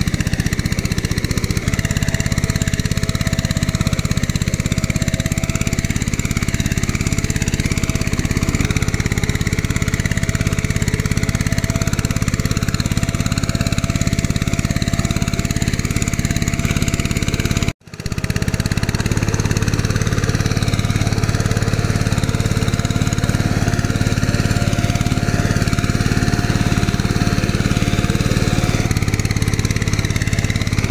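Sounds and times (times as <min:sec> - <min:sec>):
engine running steadily: 0:00.0 - 0:30.9.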